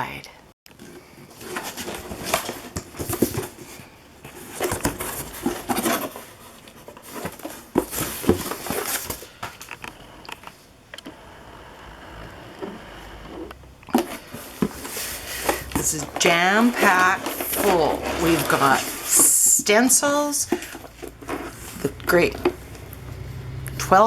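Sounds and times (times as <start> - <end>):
rustling of packing material: 0.7 - 23.5.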